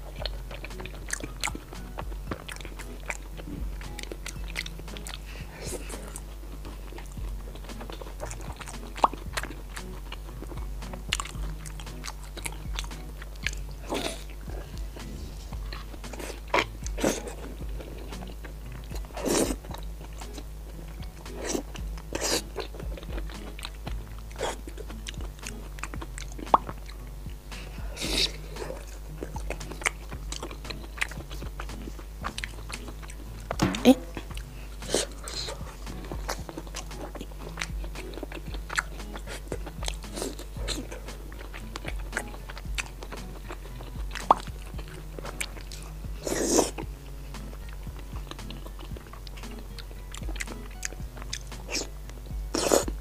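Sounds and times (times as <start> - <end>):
background music: 0.0 - 53.0
crunchy chewing close up: 0.0 - 53.0
wet chewing: 0.0 - 53.0.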